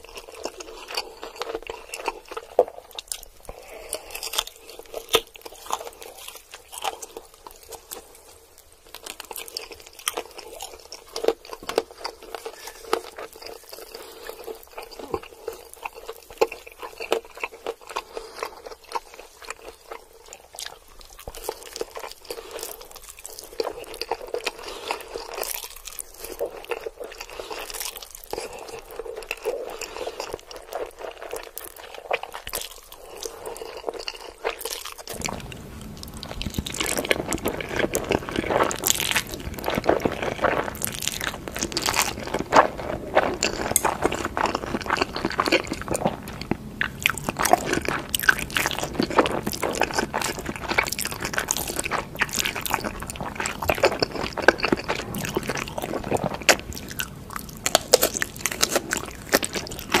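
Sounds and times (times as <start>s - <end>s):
wet chewing: 0.0s - 60.0s
crunching bites: 9.0s - 60.0s.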